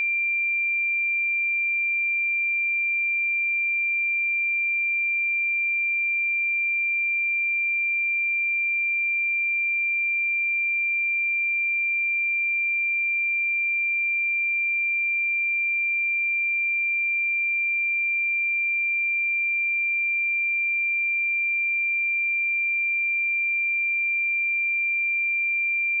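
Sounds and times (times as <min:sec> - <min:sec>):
sine-wave test tone: 0:00.0 - 0:26.0.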